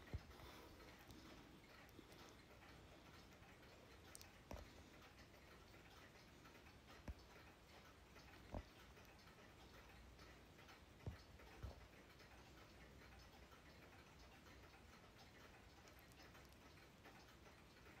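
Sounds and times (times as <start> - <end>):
clocks ticking: 0.0 - 18.0.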